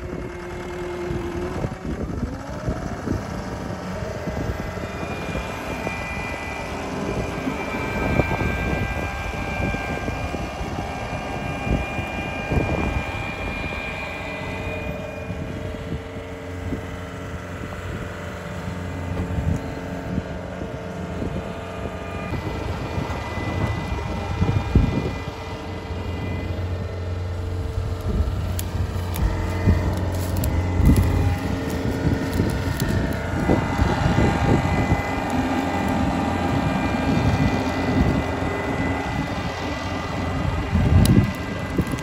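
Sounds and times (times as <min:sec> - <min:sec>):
diesel engine running: 0:00.0 - 0:42.0
high whine: 0:00.0 - 0:42.0.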